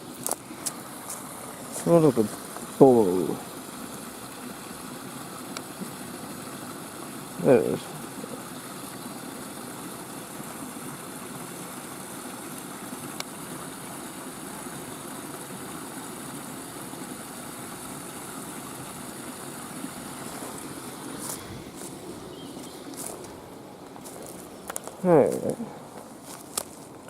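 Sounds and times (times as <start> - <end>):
small waterfall rushing: 0.0 - 27.0.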